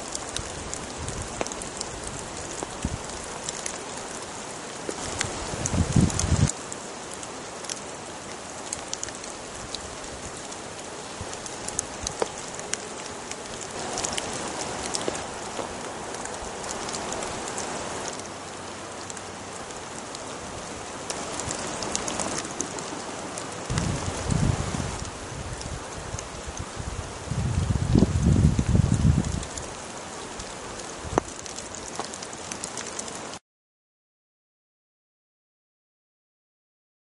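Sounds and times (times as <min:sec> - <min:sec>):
rain falling through woodland: 0:00.0 - 0:33.4
raindrops ticking: 0:00.0 - 0:33.4.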